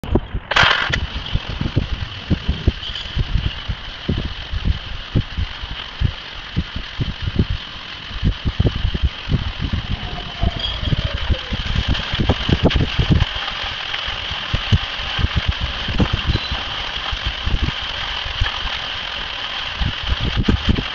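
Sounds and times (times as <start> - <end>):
low thuds and rumbling: 0.0 - 20.9
water jet gushing hiss: 0.5 - 20.9.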